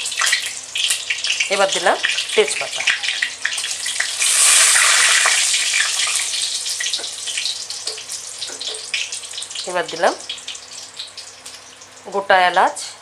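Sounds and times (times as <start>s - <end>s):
leaves sizzling in hot oil: 0.0s - 12.9s.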